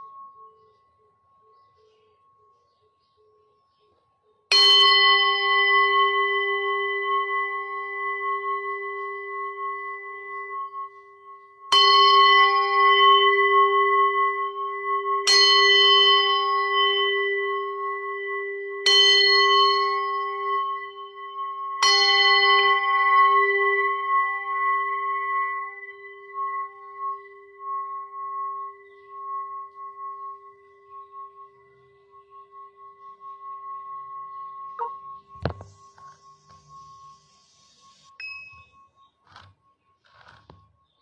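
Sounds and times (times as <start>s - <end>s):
singing bowl ringing: 0.0s - 3.6s, 4.5s - 39.1s.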